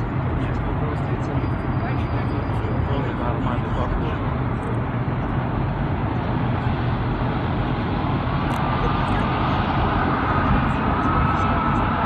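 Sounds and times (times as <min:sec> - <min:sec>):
engine rumble: 0:00.0 - 0:12.0
faint rising whine: 0:00.0 - 0:12.0.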